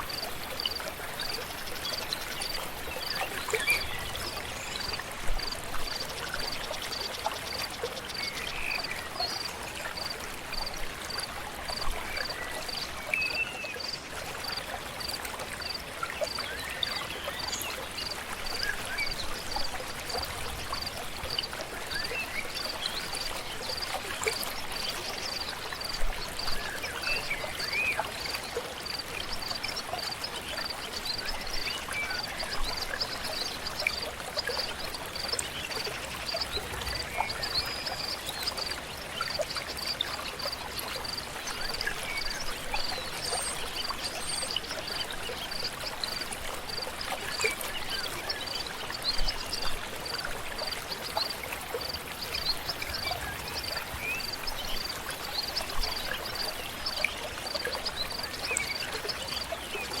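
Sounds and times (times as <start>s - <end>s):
river water flowing: 0.0s - 60.0s.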